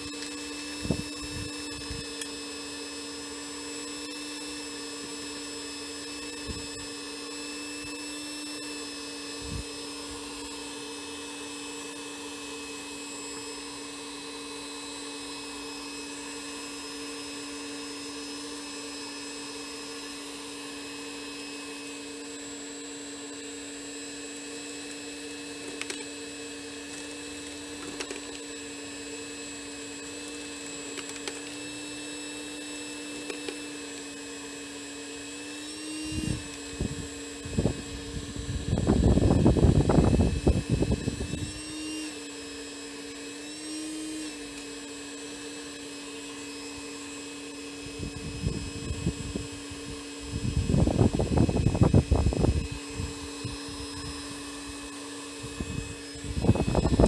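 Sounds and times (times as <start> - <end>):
vacuum cleaner motor humming: 0.0 - 57.0.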